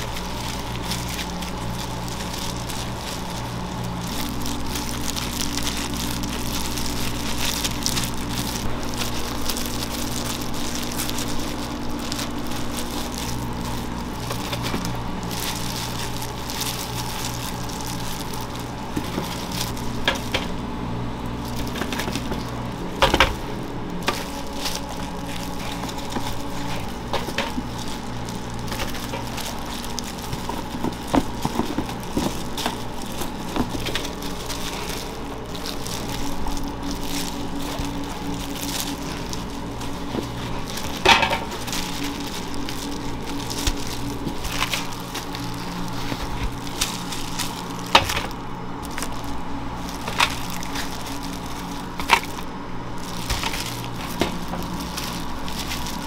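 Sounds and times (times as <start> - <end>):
food and utensils clicking and crunching: 0.0 - 56.0
machine hum: 0.0 - 56.0.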